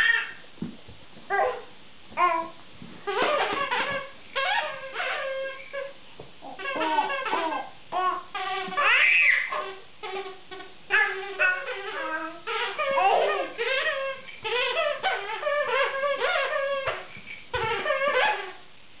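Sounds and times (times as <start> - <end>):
squeaky dog toy: 1.3 - 18.7.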